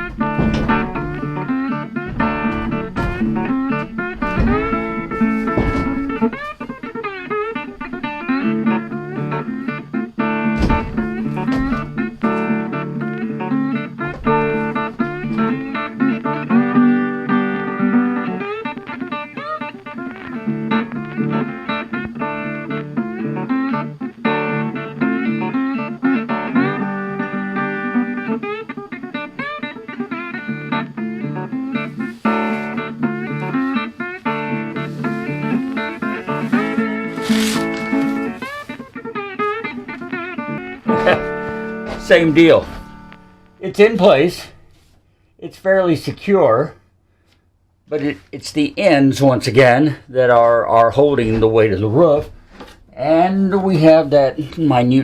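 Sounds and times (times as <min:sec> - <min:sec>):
bluesy plucked guitar: 0:00.0 - 0:46.7, 0:47.9 - 0:55.0
slide guitar: 0:00.0 - 0:46.7, 0:47.9 - 0:55.0.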